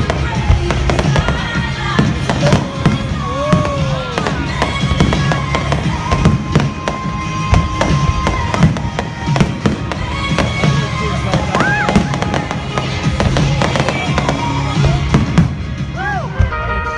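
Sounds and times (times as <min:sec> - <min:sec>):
fireworks bangs and pops: 0:00.0 - 0:16.7
music with held notes: 0:00.0 - 0:16.9.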